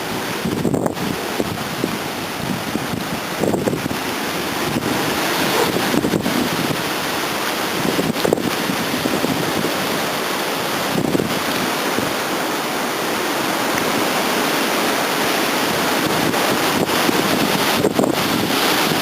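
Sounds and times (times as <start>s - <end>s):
wind and rain hiss: 0.0s - 19.0s
wind buffeting microphone: 0.0s - 19.0s.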